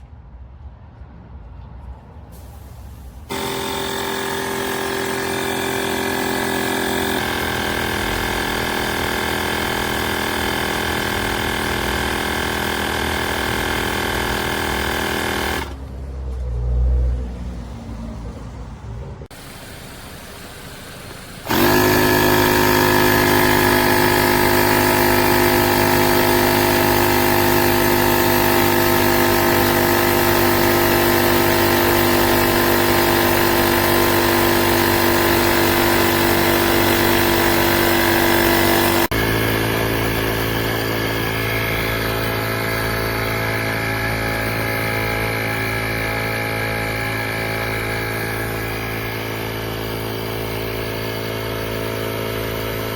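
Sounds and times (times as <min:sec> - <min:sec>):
tire inflator compressor buzzing: 0:03.3 - 0:15.9, 0:19.2 - 0:52.9.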